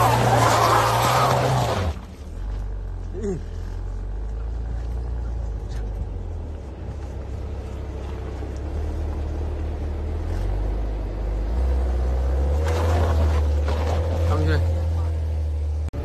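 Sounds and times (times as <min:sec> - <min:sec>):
car engine rumbling at low revs: 0:00.0 - 0:16.0.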